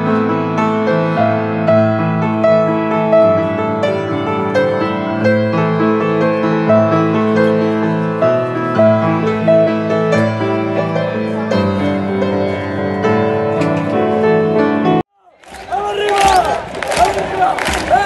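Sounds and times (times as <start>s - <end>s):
grand piano playing: 0.0s - 15.1s.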